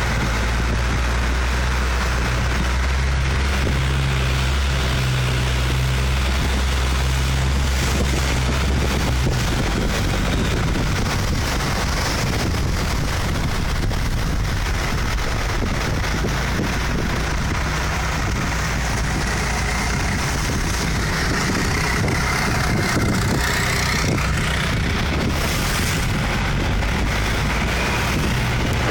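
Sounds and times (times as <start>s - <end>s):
boat engine running: 0.0s - 28.9s
wind buffeting microphone: 0.0s - 28.9s.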